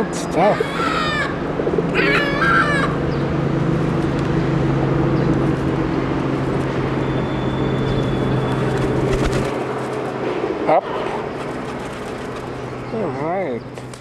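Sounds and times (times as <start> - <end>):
birds squawking: 0.0 - 3.6, 5.0 - 13.8
steady low hum: 0.0 - 14.0.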